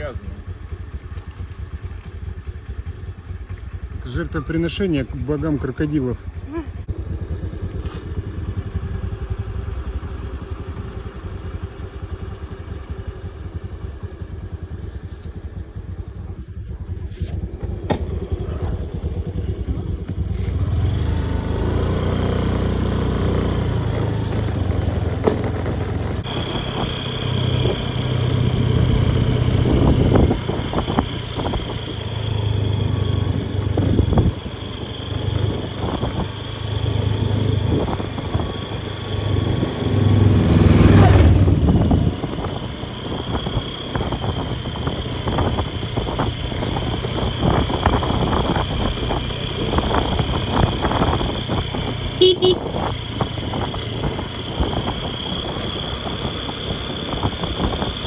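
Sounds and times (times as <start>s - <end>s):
road and wind noise: 0.0s - 58.0s
small motorbike engine: 0.0s - 58.0s.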